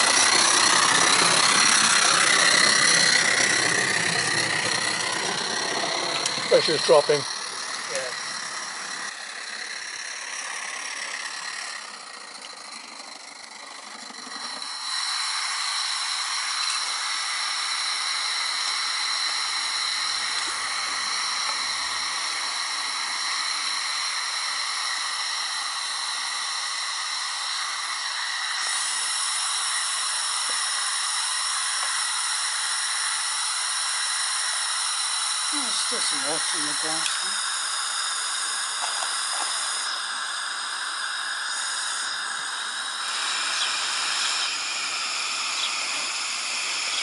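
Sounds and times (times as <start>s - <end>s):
steam hissing with high whine: 0.0s - 47.0s.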